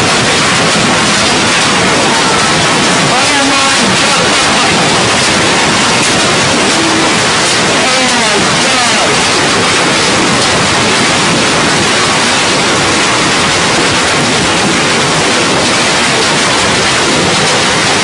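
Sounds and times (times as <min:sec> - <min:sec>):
hail and rain pelting: 0:00.0 - 0:18.0.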